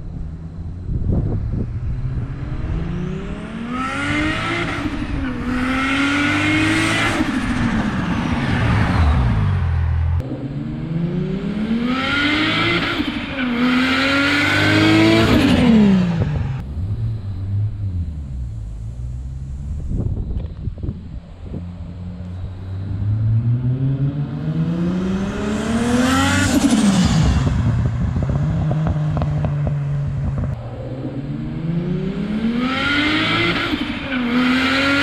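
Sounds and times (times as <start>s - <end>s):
car engine accelerating hard: 0.1s - 20.6s, 21.3s - 35.0s.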